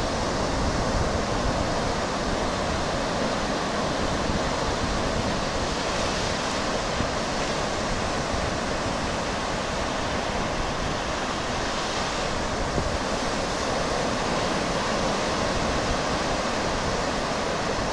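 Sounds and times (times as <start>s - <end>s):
waves washing onto beach: 0.0s - 17.9s.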